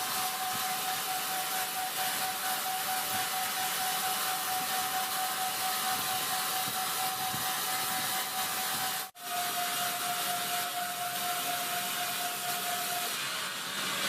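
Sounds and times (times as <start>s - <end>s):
wood-sawing machine cutting timber: 0.0s - 14.0s.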